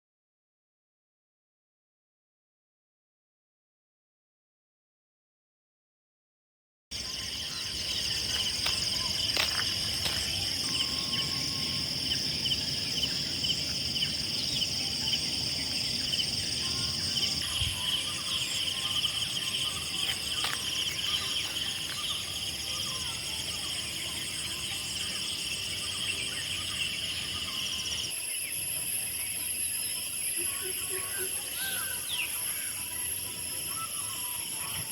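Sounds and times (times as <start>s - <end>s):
insects trilling: 6.9s - 34.9s.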